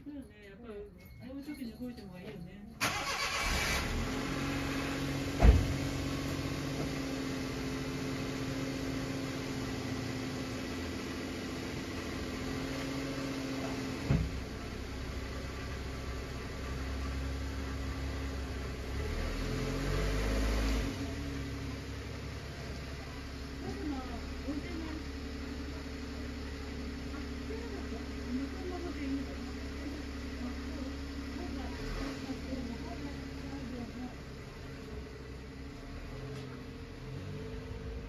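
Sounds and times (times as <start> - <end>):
car engine idling: 2.8 - 38.0.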